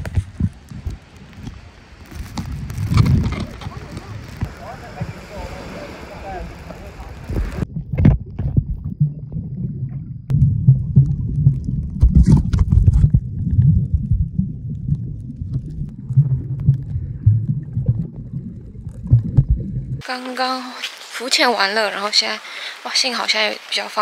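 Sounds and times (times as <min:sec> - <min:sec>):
underwater churning rumble: 0:00.0 - 0:20.0.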